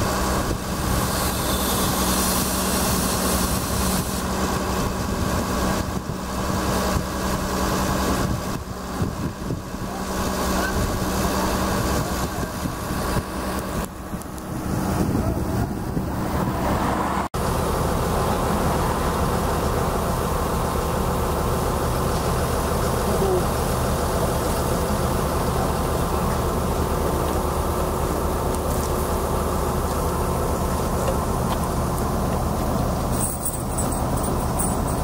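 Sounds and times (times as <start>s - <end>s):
engine running drone: 0.0s - 35.0s.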